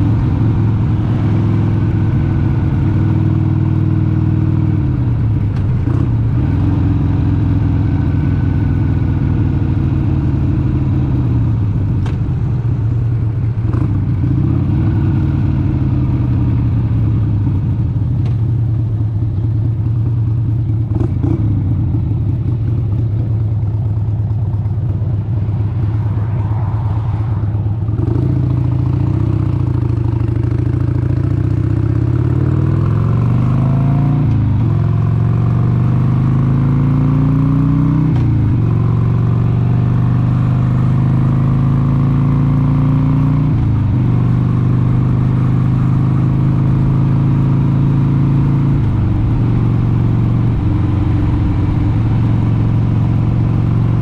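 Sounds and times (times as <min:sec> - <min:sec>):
motorcycle engine running: 0:00.0 - 0:26.4, 0:27.4 - 0:54.0.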